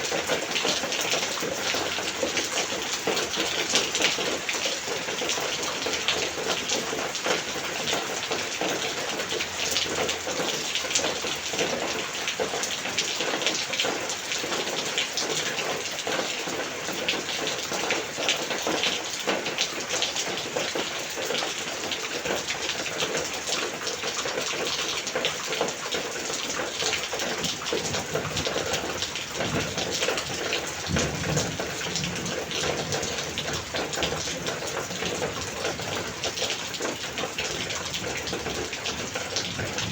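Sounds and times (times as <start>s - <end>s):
heavy rain downpour: 0.0s - 39.9s.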